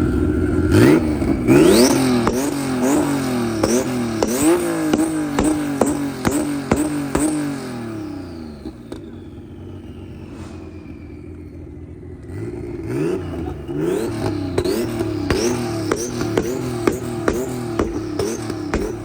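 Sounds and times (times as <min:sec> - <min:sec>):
car engine revving in blips: 0:00.0 - 0:19.0
slow falling whine: 0:00.0 - 0:19.0.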